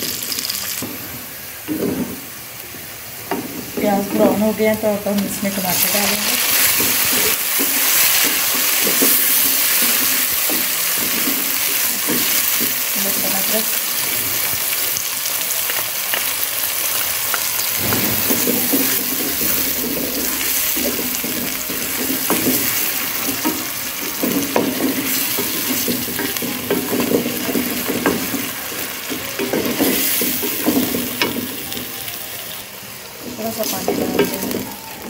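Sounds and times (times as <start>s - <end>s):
onions and tomatoes sizzling in oil: 0.0s - 35.0s.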